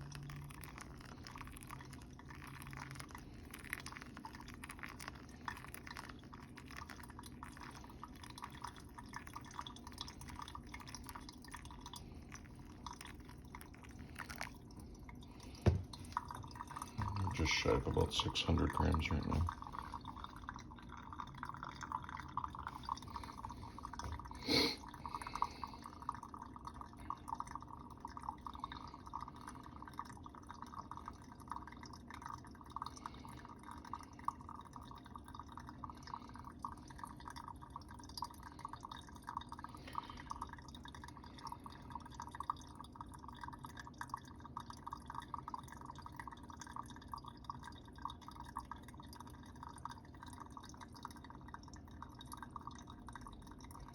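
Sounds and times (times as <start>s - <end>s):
coffee dripping through filter: 0.0s - 53.9s.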